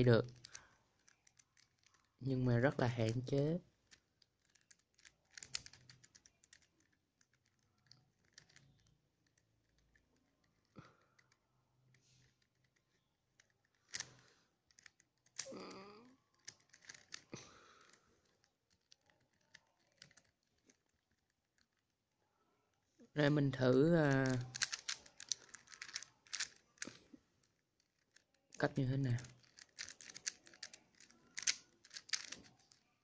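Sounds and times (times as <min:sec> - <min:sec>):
plastic puzzle pieces clicking: 0:00.2 - 0:21.9, 0:24.0 - 0:33.0.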